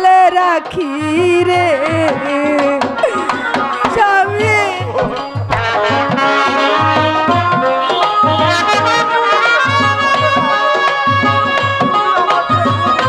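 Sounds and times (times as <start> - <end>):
hand drums playing: 0.0 - 13.0
held melodic instrument lines: 0.0 - 13.0.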